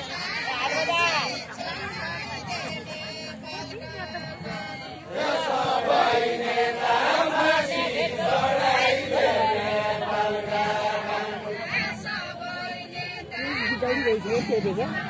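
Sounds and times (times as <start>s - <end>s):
men singing folk song in unison: 0.3s - 15.0s.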